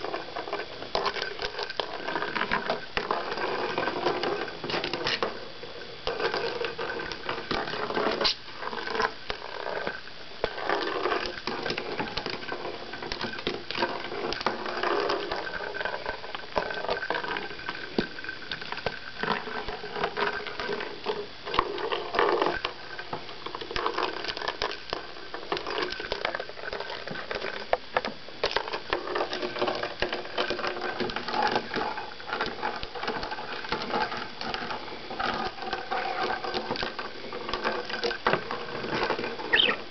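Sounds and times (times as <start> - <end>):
ball clicking and rattling: 0.0 - 39.9.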